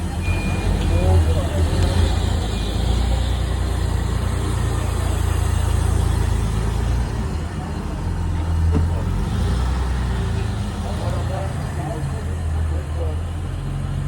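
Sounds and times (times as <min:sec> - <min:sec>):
street noise: 0:00.0 - 0:14.0
vehicle engine rumbling: 0:00.0 - 0:14.0.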